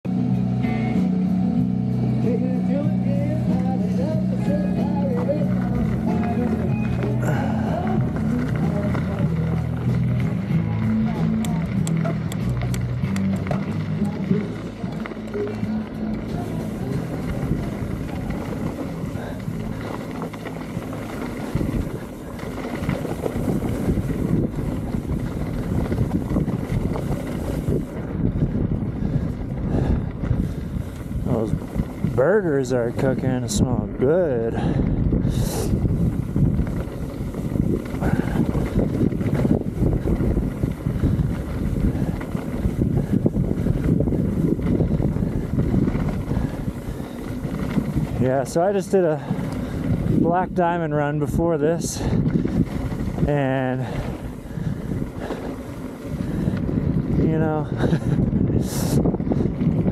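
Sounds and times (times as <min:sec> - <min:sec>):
wind buffeting microphone: 0:01.8 - 0:59.9.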